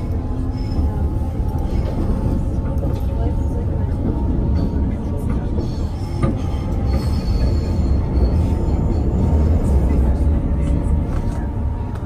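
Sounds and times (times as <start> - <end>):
moving train rumble: 0.0 - 12.0.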